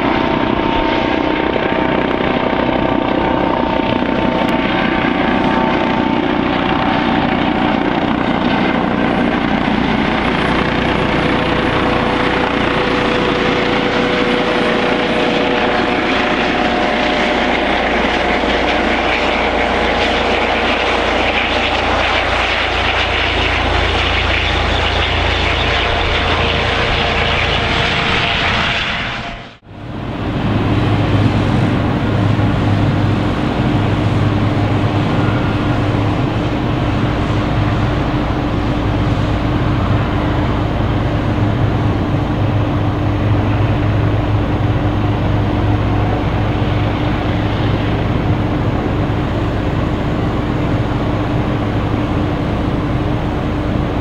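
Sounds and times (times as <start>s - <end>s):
helicopter engines and rotor: 0.0s - 54.0s
steady whining tones: 0.0s - 54.0s.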